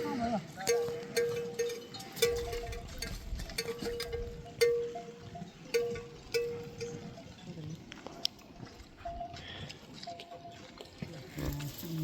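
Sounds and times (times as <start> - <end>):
livestock bell clanking: 0.0 - 7.9, 8.8 - 12.0.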